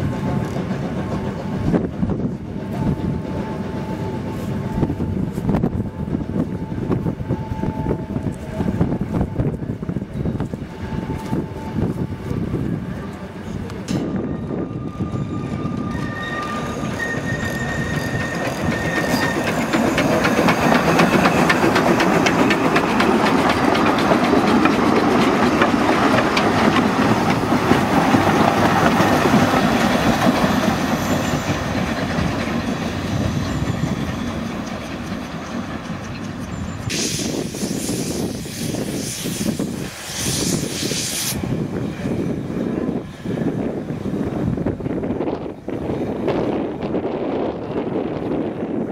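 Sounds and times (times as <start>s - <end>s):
steam train clattering on track: 0.0s - 5.7s, 13.7s - 48.9s.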